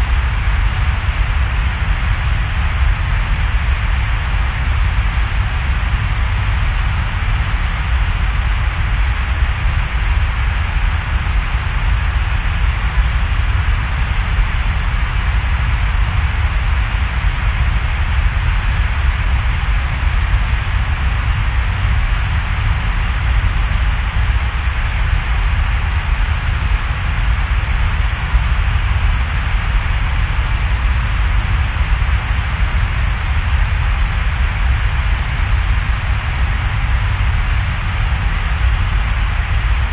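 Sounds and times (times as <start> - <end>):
deep rumble with hiss: 0.0 - 39.9.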